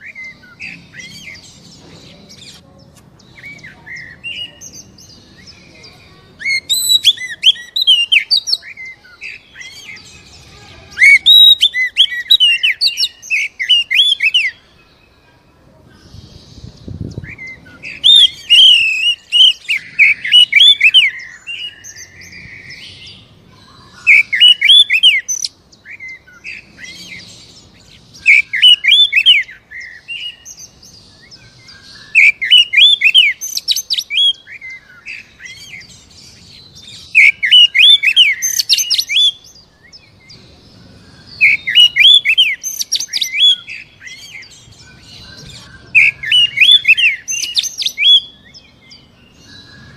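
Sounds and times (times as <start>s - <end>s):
bird singing rapid phrases: 0.0s - 49.9s.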